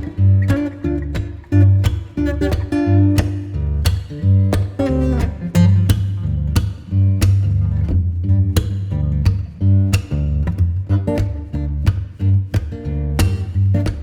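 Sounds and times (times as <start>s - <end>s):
bass line: 0.0s - 14.0s
plucked and strummed guitar: 0.0s - 14.0s.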